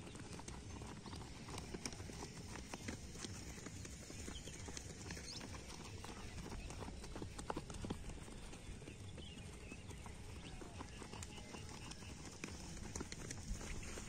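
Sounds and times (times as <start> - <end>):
runners' footfalls on dirt: 0.0 - 14.0.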